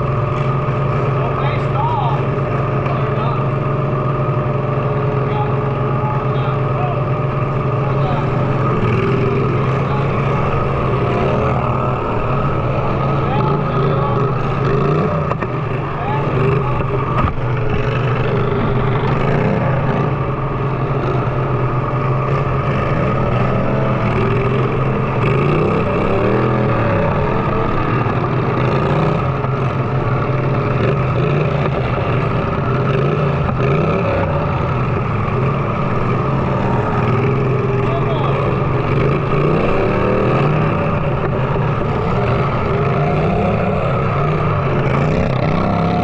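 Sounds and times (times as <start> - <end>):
riding lawn mower engines revving: 0.0 - 46.0
voices: 0.4 - 46.0.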